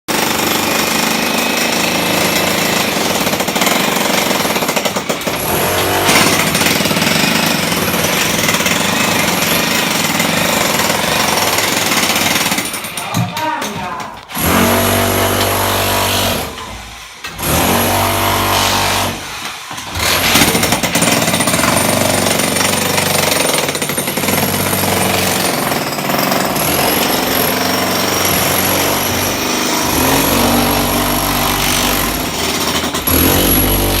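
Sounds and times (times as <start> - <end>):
electric demolition hammer chipping: 0.1 - 34.0.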